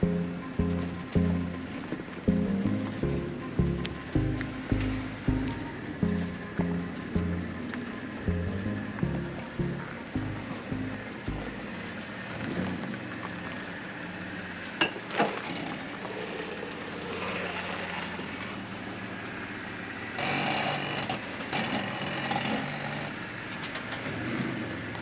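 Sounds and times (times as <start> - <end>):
vehicle engine running low: 0.0 - 25.0.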